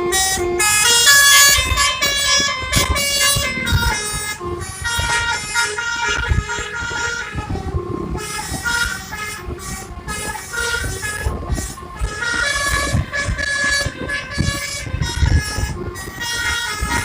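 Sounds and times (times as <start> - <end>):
multi-tone air horn melody: 0.0 - 17.0.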